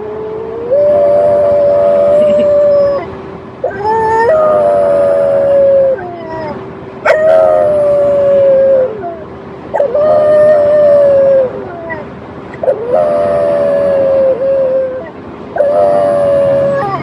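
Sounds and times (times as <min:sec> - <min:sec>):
dog howling: 0:00.0 - 0:17.0.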